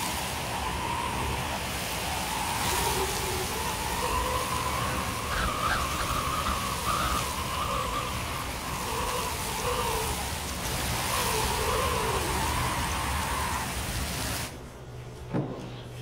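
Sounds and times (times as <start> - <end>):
strong wind howling: 0.0 - 15.0.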